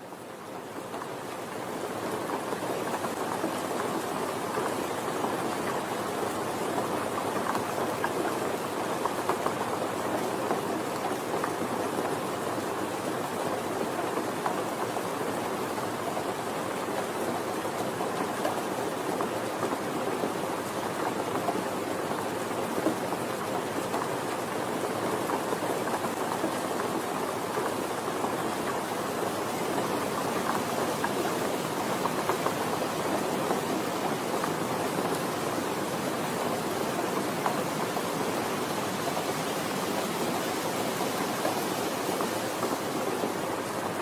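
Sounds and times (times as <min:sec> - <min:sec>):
soft steady rain: 0:00.0 - 0:44.0.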